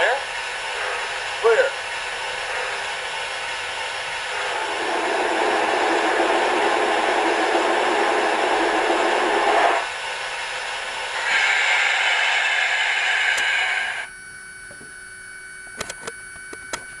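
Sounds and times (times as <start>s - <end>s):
model locomotive steam hiss: 0.0s - 14.1s.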